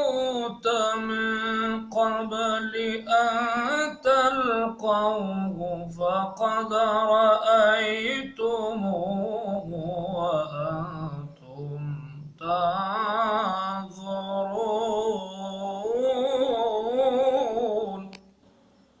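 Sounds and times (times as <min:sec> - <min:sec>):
man reciting melodically: 0:00.0 - 0:18.1.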